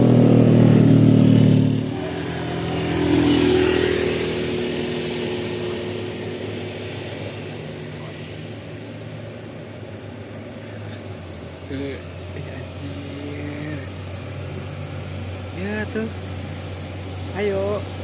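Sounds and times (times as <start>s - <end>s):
loud vehicle engine: 0.0s - 18.0s
vehicle passing by: 0.0s - 18.0s.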